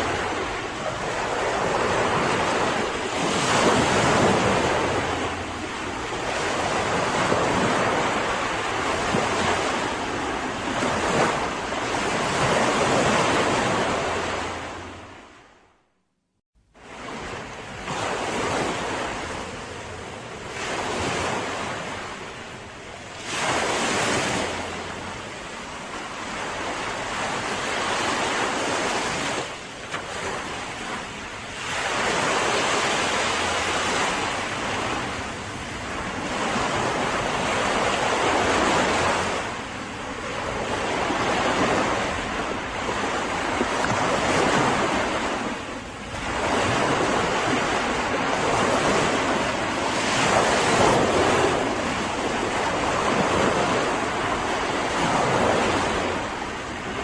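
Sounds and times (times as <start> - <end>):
wind noise on microphone: 0.0 - 15.4, 16.8 - 57.0
waves breaking on a beach: 0.0 - 15.7, 16.7 - 57.0.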